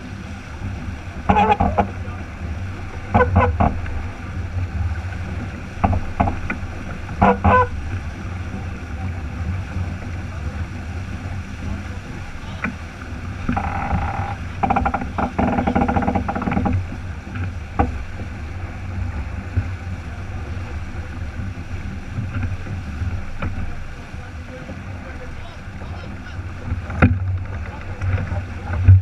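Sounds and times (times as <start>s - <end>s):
water rushing along a hull: 0.0s - 29.0s
wind buffeting the microphone: 0.0s - 29.0s.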